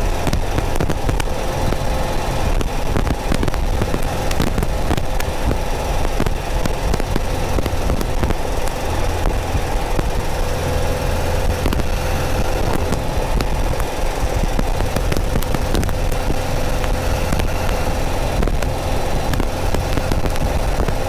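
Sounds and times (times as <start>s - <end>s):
car engine running: 0.0s - 21.0s
microphone static crackle: 0.0s - 21.0s.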